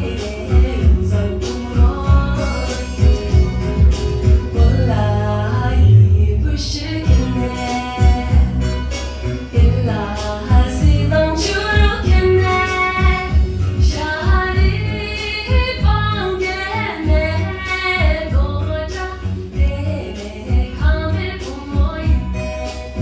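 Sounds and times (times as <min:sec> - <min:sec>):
music with steady beat: 0:00.0 - 0:23.0
woman singing: 0:00.0 - 0:23.0.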